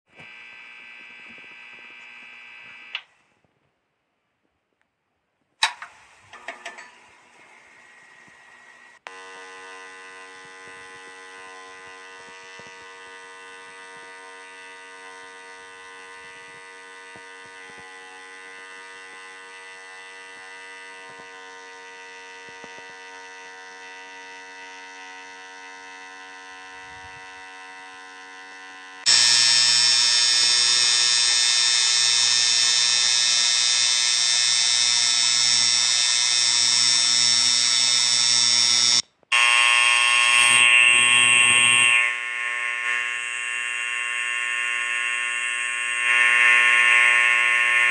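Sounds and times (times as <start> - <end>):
electrical device buzzing: 0.1 - 3.5, 5.6 - 47.9.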